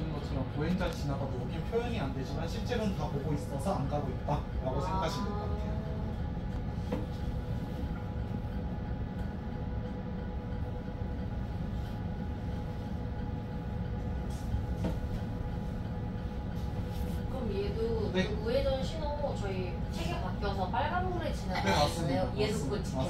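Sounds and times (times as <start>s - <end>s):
bus cabin rumble: 0.0s - 23.0s
faint steady hum: 0.0s - 23.0s.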